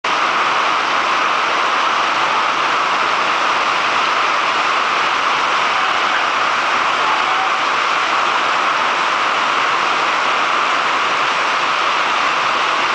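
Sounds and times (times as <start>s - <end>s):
swift-flowing water: 0.1s - 12.9s.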